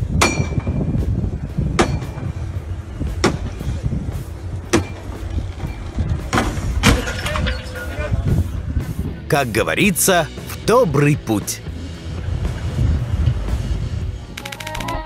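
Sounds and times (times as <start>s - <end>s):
boat engine rumble: 0.0s - 14.4s.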